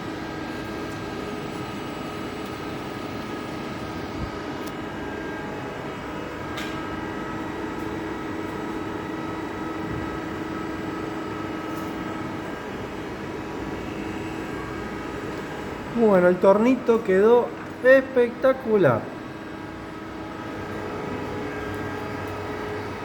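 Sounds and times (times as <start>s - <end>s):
lathe motor hum with whine: 0.0s - 23.0s.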